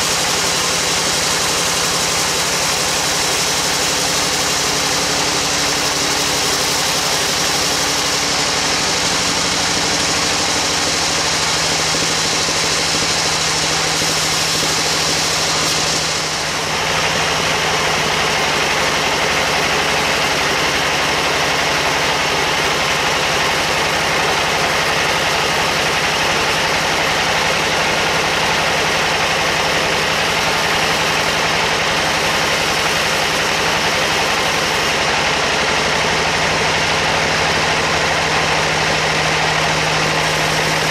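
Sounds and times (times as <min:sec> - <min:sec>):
band saw cutting timber: 0:00.0 - 0:40.9.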